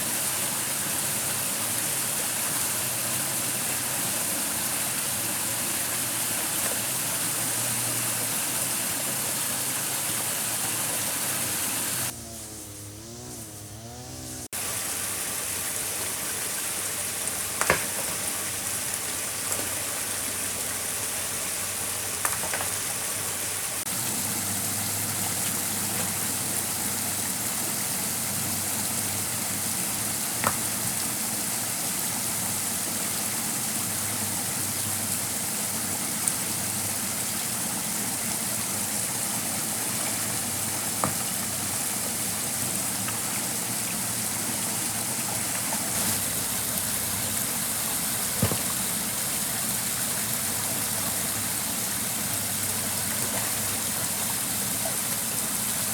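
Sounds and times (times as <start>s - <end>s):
stream water flowing: 0.0s - 12.1s, 14.5s - 55.9s.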